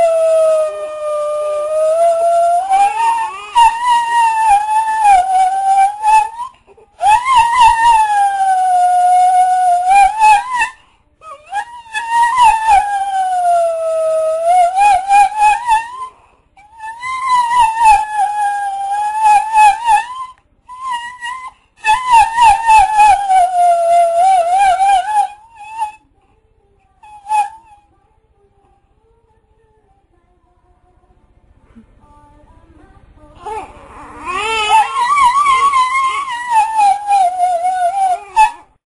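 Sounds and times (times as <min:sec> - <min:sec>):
dog howling: 0:00.0 - 0:26.0, 0:27.0 - 0:27.8, 0:33.4 - 0:38.8.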